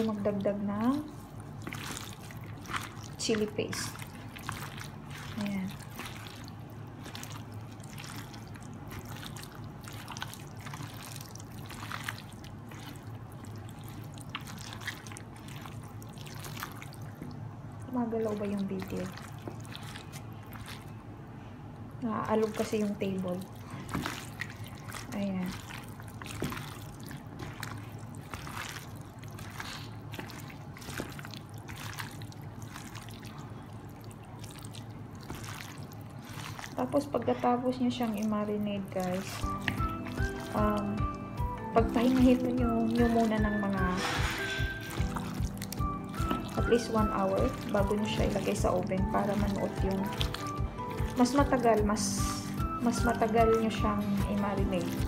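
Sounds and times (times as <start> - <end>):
wet squelching of kneaded meat: 0.0 - 55.0.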